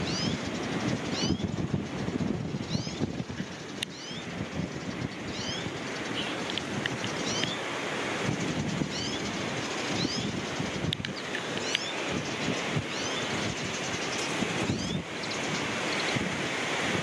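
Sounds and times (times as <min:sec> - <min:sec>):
small bird chirping: 0:00.0 - 0:07.6, 0:08.4 - 0:16.2
wind buffeting microphone: 0:00.0 - 0:17.0.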